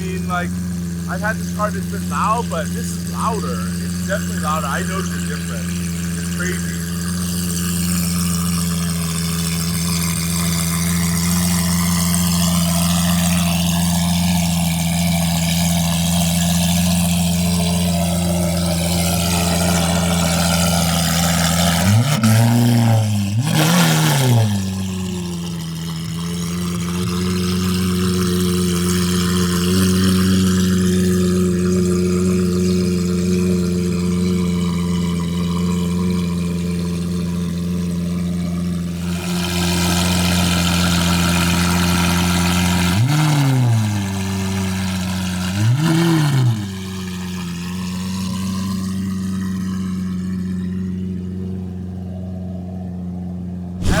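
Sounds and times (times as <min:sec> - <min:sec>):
engine revving: 0:00.0 - 0:50.4, 0:53.7 - 0:54.0
sports car engine idling: 0:00.0 - 0:54.0.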